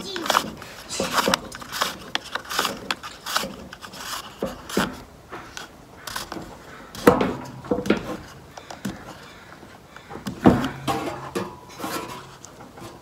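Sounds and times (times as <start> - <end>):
plastic and metal clicks and scrapes: 0.0 - 13.0.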